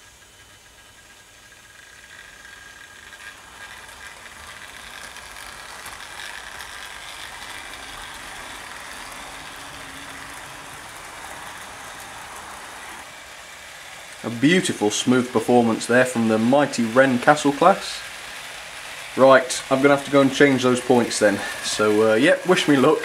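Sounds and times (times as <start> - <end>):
model train motor whirring: 0.0 - 23.0
wheels clattering over track: 0.0 - 23.0.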